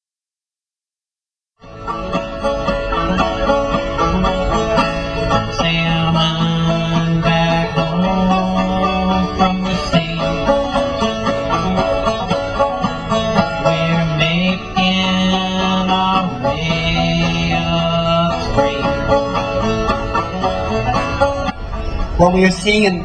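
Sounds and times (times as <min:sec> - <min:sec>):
background music: 0:01.6 - 0:23.0.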